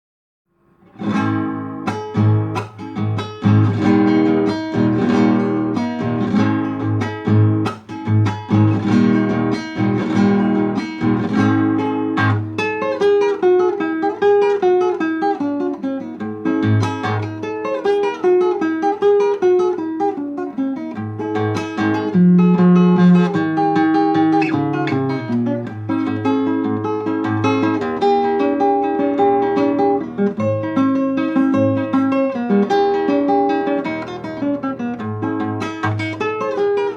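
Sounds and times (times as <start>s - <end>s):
acoustic guitar folk dance: 0.7s - 36.9s.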